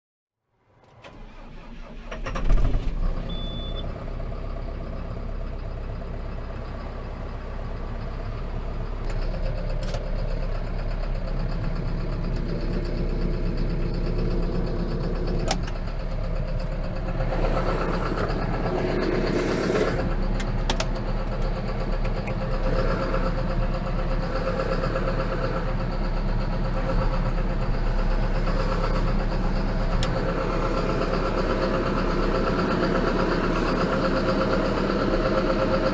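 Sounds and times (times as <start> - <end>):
tractor diesel engine running: 0.7 - 35.9.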